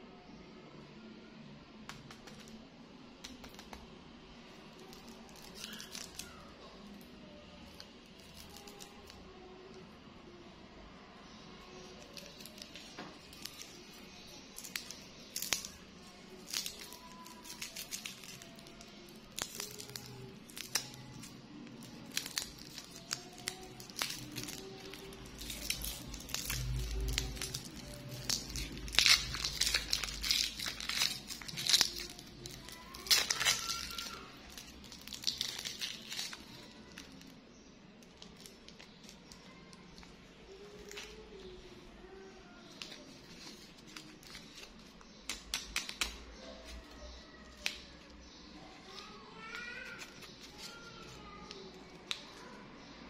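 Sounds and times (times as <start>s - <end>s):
plastic wrapper crinkling: 4.6s - 9.3s, 11.6s - 37.4s, 38.0s - 41.8s, 42.6s - 52.6s.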